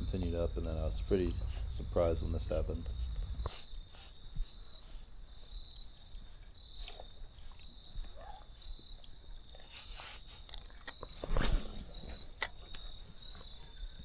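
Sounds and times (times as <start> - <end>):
creekside ambience: 0.0 - 14.0.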